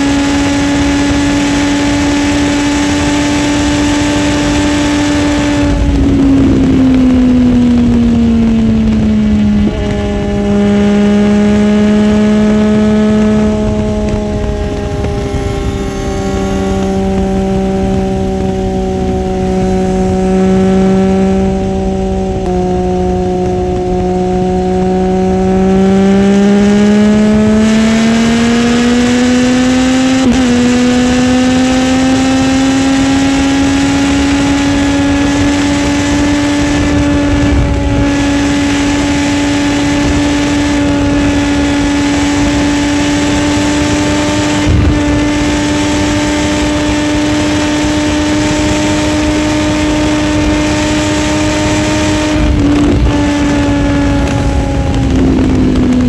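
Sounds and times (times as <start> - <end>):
motorcycle engine running hard: 0.0 - 56.0
wind rushing: 2.5 - 56.0.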